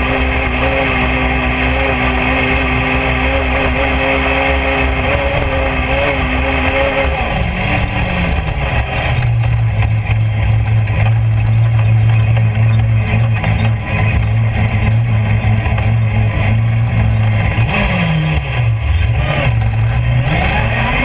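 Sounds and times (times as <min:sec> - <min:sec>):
engine running at high revs: 0:00.0 - 0:21.0.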